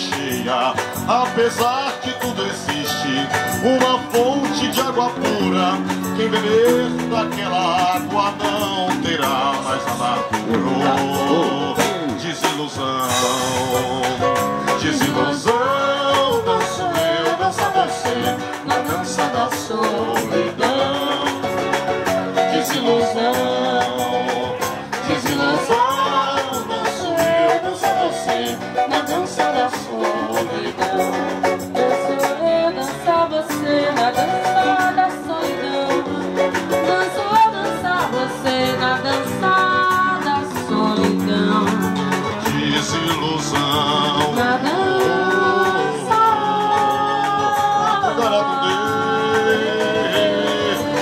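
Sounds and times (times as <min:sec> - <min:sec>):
steady percussion: 0:00.0 - 0:51.0
strummed acoustic guitars: 0:00.0 - 0:51.0.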